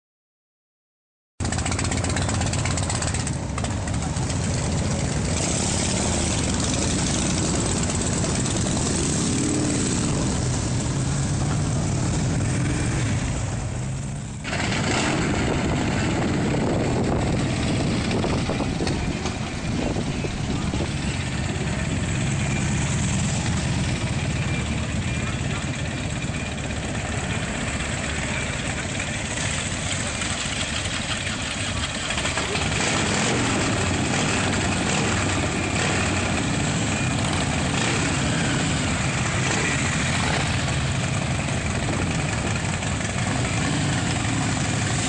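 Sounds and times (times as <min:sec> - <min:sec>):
motorcycle engines rumbling: 0:01.4 - 0:45.0
outdoor noise: 0:01.4 - 0:45.0.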